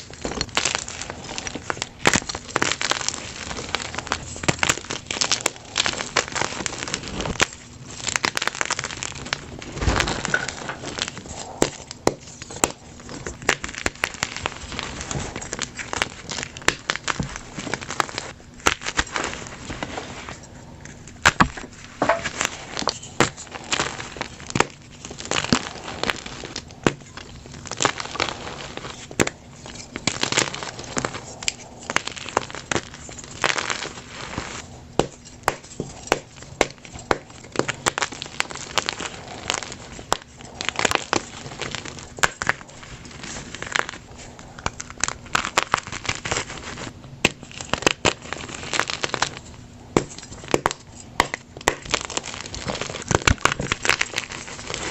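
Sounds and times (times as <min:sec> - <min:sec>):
chalk blocks crunching by hand: 0:00.0 - 0:54.9
chalk cracking: 0:00.0 - 0:54.9.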